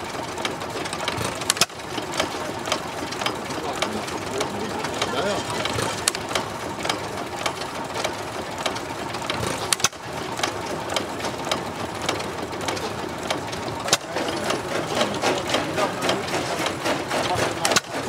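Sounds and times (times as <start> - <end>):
stationary engines clattering: 0.0 - 18.0
sharp mechanical clicks: 0.4 - 4.2, 4.9 - 18.0.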